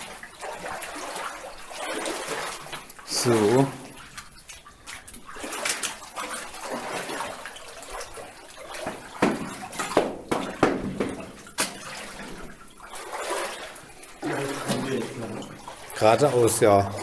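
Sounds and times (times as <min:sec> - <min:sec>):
footsteps splashing through water: 0:00.0 - 0:17.0.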